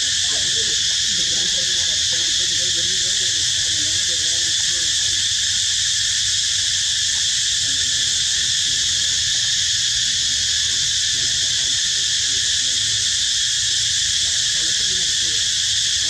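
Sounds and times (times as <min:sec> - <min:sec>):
insect chorus drone: 0:00.0 - 0:16.0.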